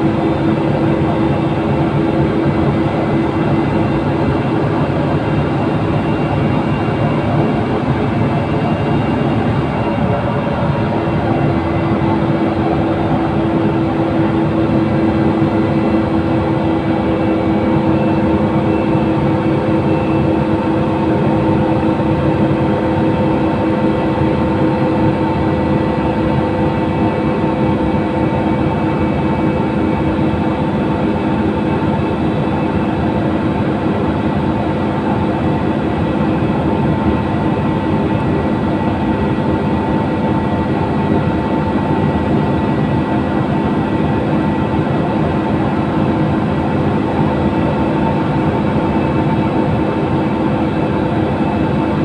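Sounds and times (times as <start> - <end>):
bus engine drone: 0.0 - 52.0
constant whine: 0.0 - 52.0.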